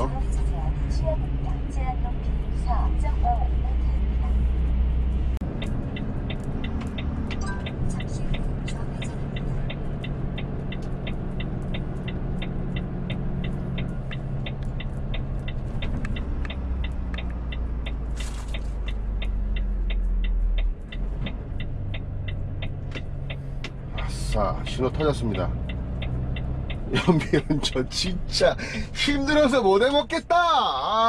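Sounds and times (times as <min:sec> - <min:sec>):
diesel engine rumbling: 0:00.0 - 0:31.0
turn signal ticking: 0:00.0 - 0:31.0.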